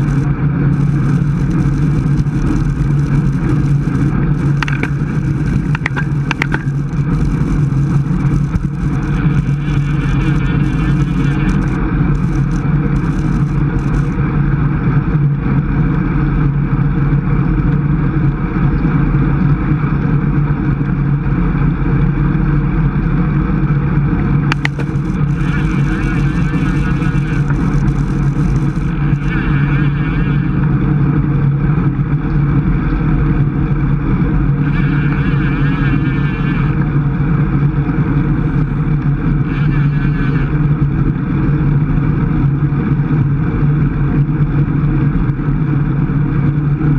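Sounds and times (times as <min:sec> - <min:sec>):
wind noise on microphone: 0:00.0 - 0:46.9.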